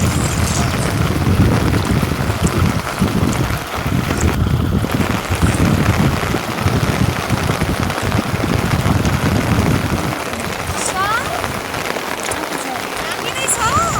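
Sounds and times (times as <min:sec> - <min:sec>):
steady hiss: 0:00.0 - 0:13.9
wind buffeting microphone: 0:00.0 - 0:13.9.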